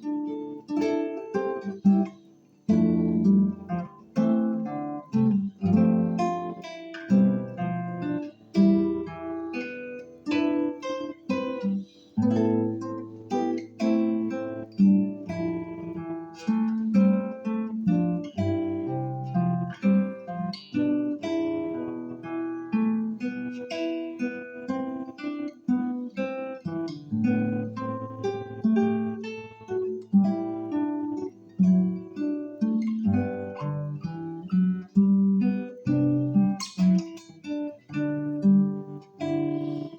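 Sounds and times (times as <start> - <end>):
fingerpicked acoustic guitar: 0.0 - 39.9.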